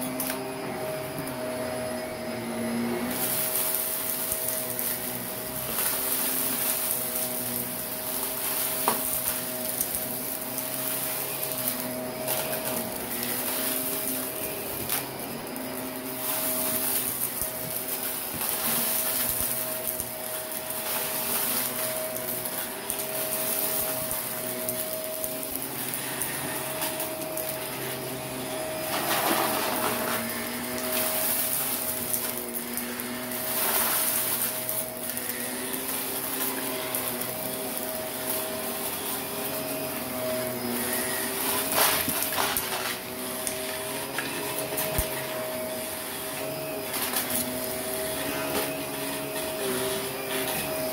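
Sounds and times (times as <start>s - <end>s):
grit crunching in vacuum: 0.0s - 50.9s
vacuum cleaner running: 0.0s - 50.9s.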